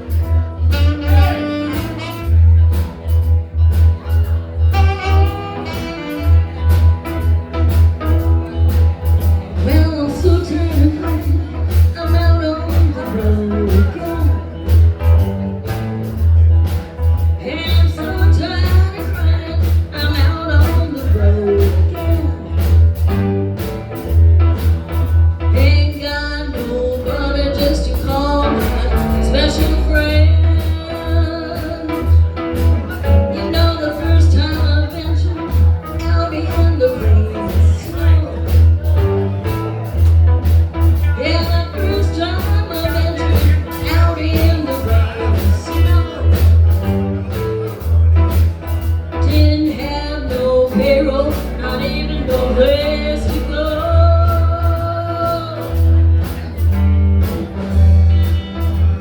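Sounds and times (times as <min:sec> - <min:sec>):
blues band playing: 0:00.0 - 0:59.0
heavy bass line: 0:00.0 - 0:59.0.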